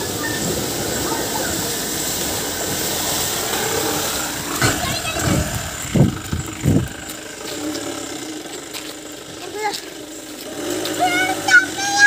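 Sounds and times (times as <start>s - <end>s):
mud and water splashing: 0.0s - 12.0s
vehicle engine under load: 0.0s - 12.0s.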